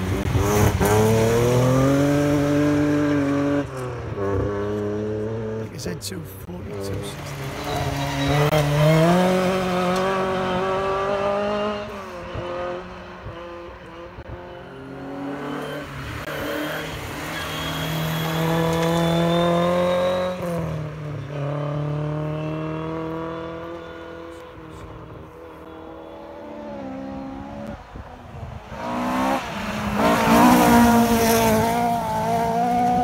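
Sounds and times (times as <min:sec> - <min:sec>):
rally car engines at full throttle: 0:00.0 - 0:33.0.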